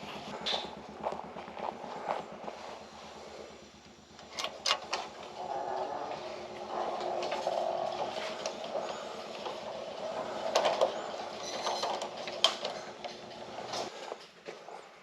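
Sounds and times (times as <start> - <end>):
hum: 0.0 - 13.9
low mechanical rumble: 0.0 - 14.1.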